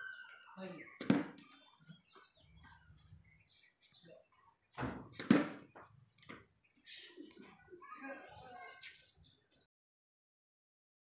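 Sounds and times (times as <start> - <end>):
faint outdoor noise: 0.0 - 9.7.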